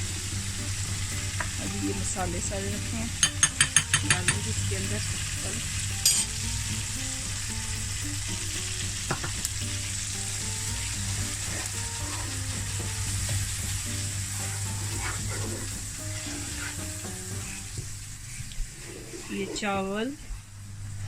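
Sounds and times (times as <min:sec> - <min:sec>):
soft melody: 0:00.0 - 0:17.8
food sizzling in a pot: 0:00.0 - 0:20.1.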